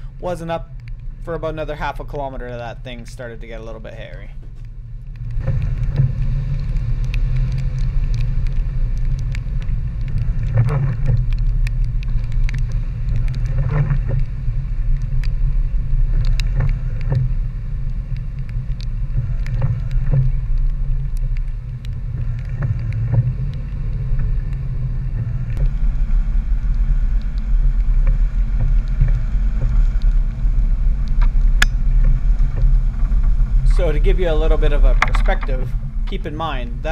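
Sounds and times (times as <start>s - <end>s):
truck engine and tyres rumbling: 0.0s - 36.9s.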